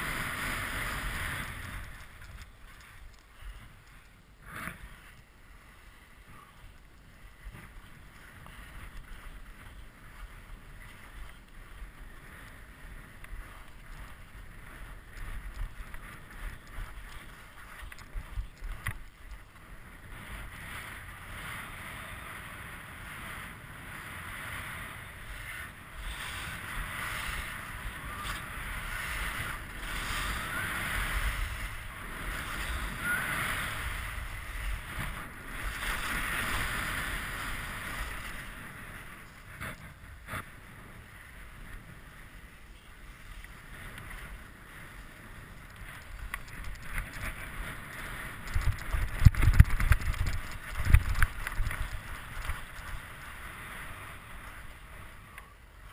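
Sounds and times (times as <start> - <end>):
skis scraping over snow: 0.0 - 55.9
wind rumbling on microphone: 0.0 - 55.9.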